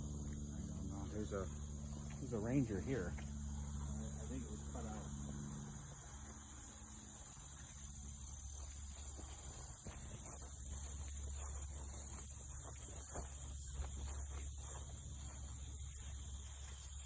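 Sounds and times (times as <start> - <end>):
faint ticks and crackles: 0.0 - 17.0
insects trilling: 0.0 - 17.0.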